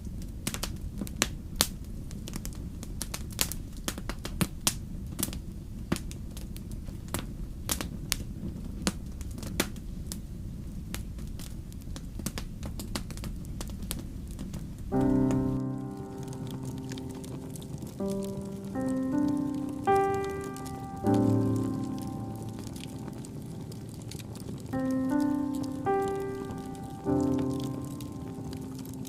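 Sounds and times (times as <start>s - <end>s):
low rumble of flame: 0.0s - 29.0s
burning wood popping: 0.4s - 29.0s.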